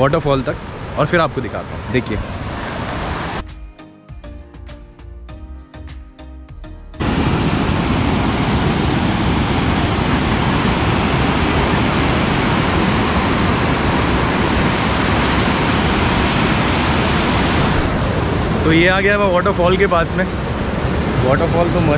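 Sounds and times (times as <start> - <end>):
waterfall rushing over rocks: 0.0 - 3.4, 7.0 - 21.9.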